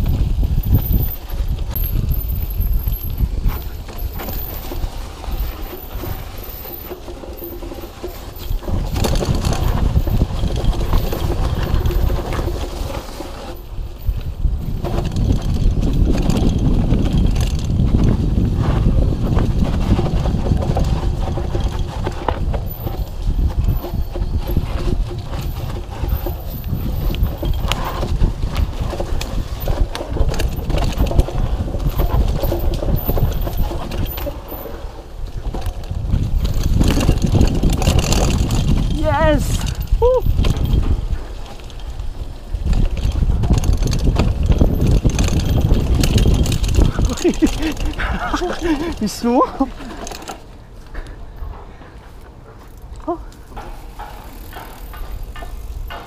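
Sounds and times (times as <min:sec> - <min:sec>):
bike rattling over bumps: 0:00.0 - 0:56.0
bike tyres rumbling on dirt: 0:00.0 - 0:56.0.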